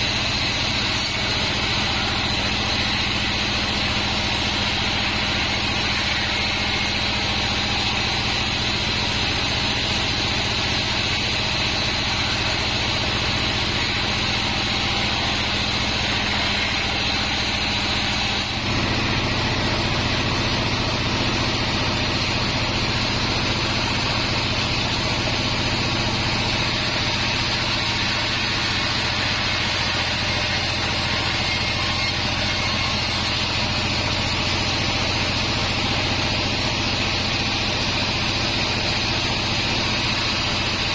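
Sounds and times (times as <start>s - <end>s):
machine hum: 0.0s - 40.9s.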